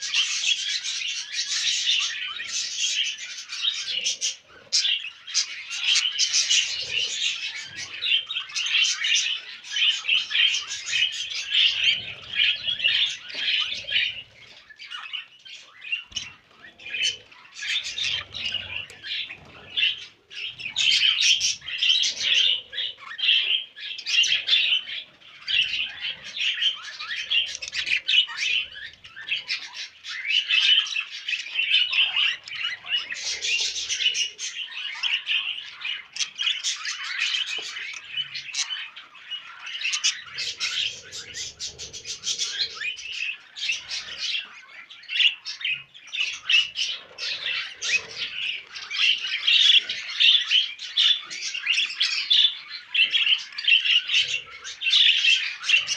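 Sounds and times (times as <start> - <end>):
budgerigars warbling and chattering: 0.0 - 55.9.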